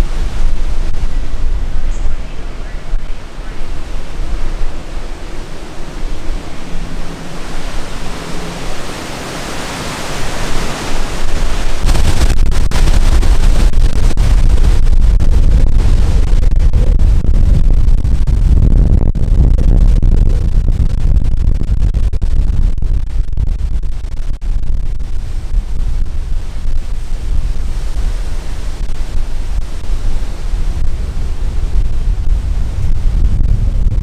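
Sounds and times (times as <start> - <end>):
driving rain: 0.0 - 34.0
strong wind gusting through trees: 0.0 - 34.0
wind buffeting microphone: 0.0 - 34.0.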